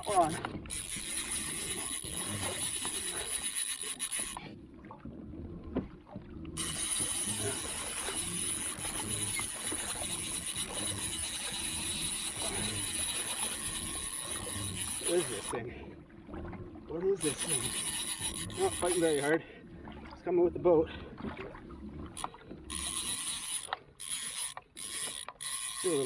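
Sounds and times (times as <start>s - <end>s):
water lapping: 0.0s - 26.0s.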